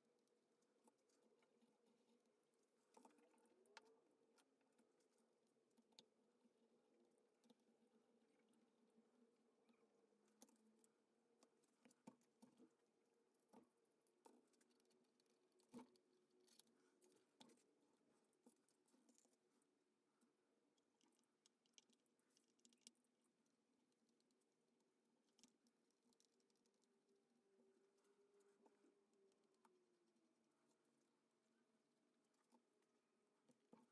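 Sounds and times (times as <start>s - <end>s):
quiet clicks and taps: 0.0s - 33.9s.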